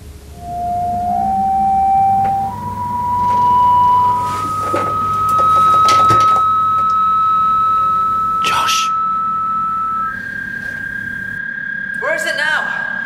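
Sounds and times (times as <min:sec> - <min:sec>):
electronic tone stepping up: 0:00.0 - 0:13.0.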